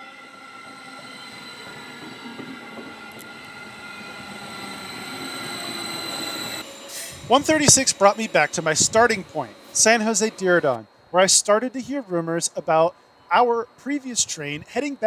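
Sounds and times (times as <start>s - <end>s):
high-pitched whining tones: 0.0s - 15.0s
train running on rails: 0.0s - 15.0s.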